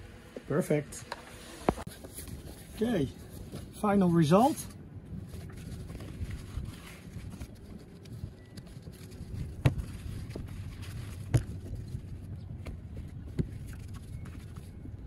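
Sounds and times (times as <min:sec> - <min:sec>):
fabric cover rustling: 0:01.5 - 0:14.8
steady low rumble: 0:01.7 - 0:15.0.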